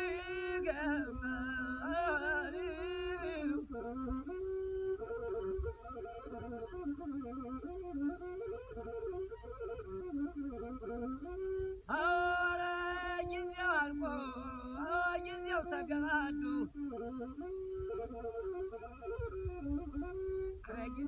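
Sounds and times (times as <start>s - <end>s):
bowed fiddle melody: 0.0s - 21.0s.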